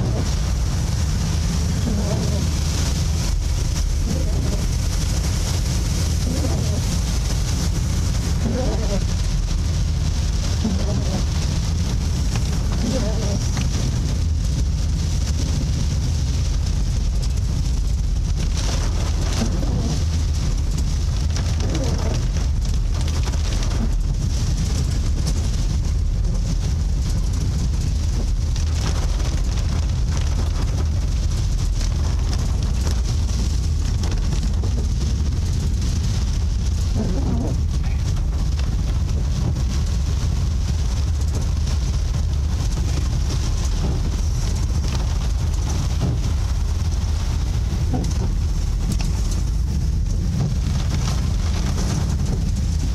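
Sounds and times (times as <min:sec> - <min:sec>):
vehicle rumbling: 0:00.0 - 0:52.9
wind: 0:00.0 - 0:52.9.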